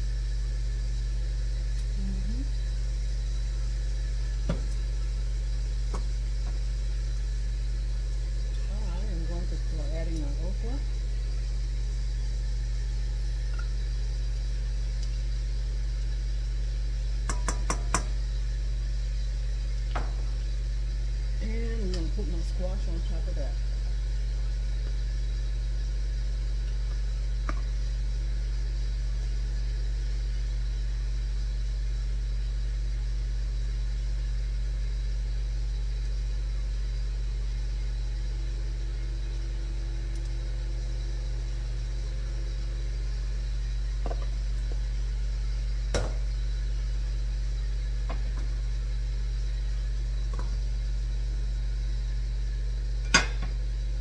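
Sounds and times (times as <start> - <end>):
appliance fan humming: 0.0 - 54.0.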